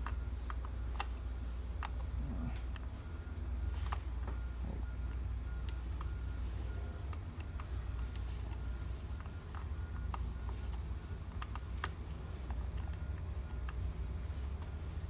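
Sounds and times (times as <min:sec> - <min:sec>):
light clicks of plastic parts: 0:00.0 - 0:15.0
steady low hum: 0:00.0 - 0:15.0.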